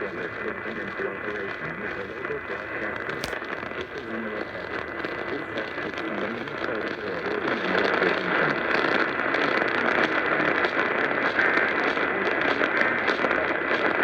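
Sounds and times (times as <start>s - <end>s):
faint voice on radio: 0.0s - 14.0s
radio static hiss and crackle: 0.0s - 14.0s.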